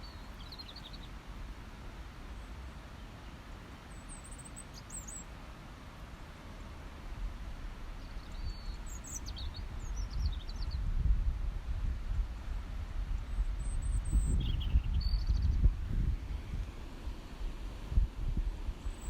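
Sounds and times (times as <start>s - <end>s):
songbirds chirping: 0.0s - 10.9s, 13.1s - 19.0s.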